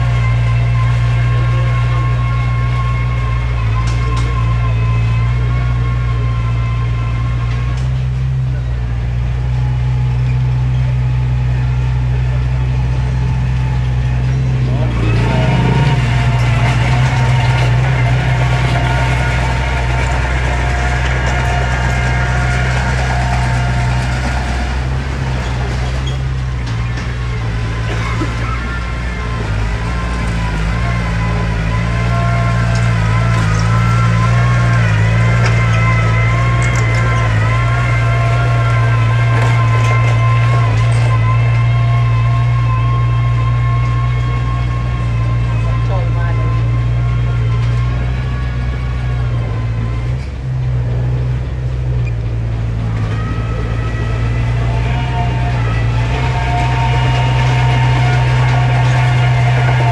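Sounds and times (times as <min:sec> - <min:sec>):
diesel engine under load: 0:00.0 - 0:59.9
whining tone: 0:00.0 - 0:59.9.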